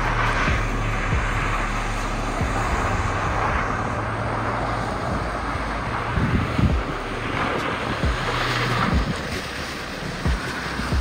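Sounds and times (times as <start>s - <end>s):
vehicle engine running low revs: 0.0s - 11.0s.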